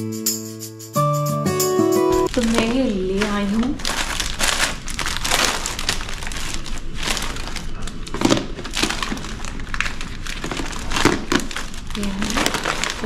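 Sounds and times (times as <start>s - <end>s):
plastic and paper crinkling: 2.2s - 13.0s.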